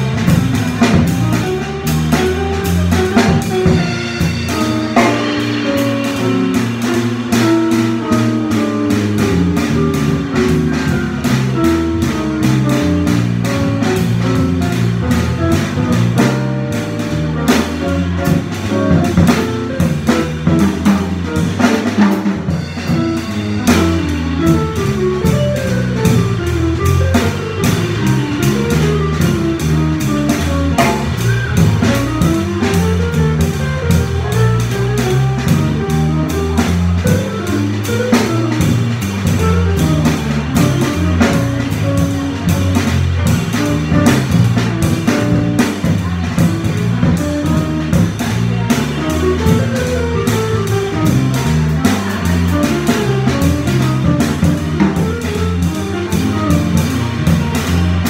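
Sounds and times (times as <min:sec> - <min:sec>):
bass: 0:00.0 - 0:58.0
drum cymbals: 0:00.0 - 0:58.0.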